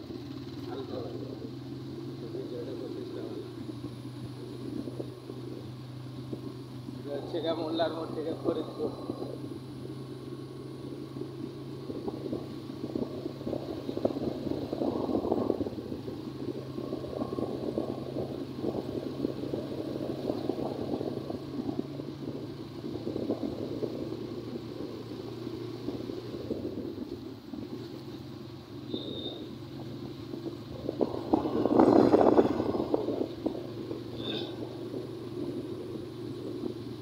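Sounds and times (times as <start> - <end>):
vehicle driving hum: 0.0 - 37.0
wind buffeting microphone: 0.0 - 37.0.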